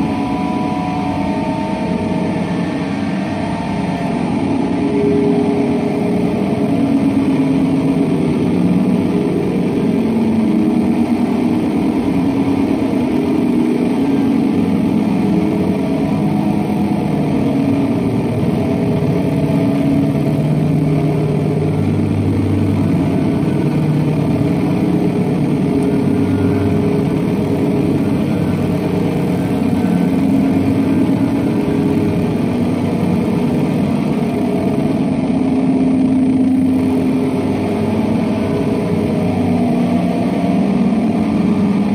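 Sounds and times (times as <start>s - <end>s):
electric guitar drone: 0.0s - 41.9s.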